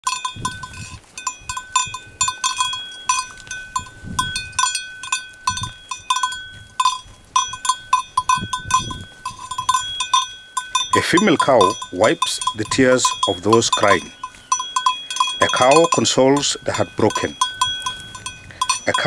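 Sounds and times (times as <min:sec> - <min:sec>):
livestock bells clanking: 0:00.0 - 0:19.0.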